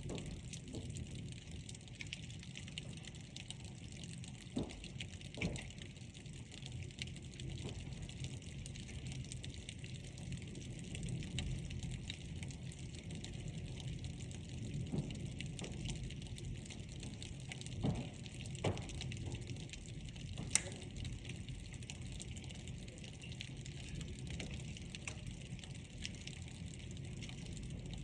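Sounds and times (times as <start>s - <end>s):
pouring rain: 0.0s - 28.0s.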